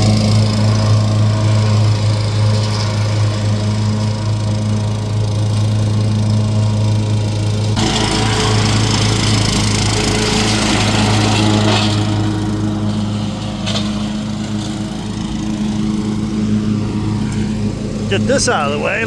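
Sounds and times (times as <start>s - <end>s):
lawn mower engine hum: 0.0s - 19.0s.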